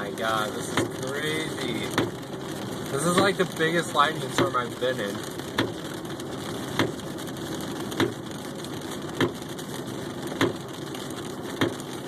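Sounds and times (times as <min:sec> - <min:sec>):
road and engine rumble: 0:00.0 - 0:12.0
windshield wipers thumping: 0:00.0 - 0:12.0.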